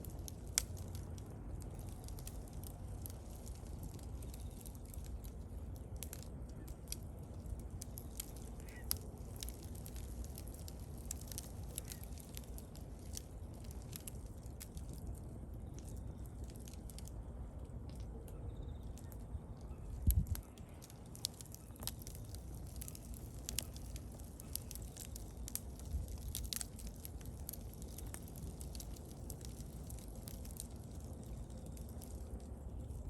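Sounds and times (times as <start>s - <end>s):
bonfire crackling and popping: 0.0s - 33.0s
low rumble of flames: 0.0s - 33.0s.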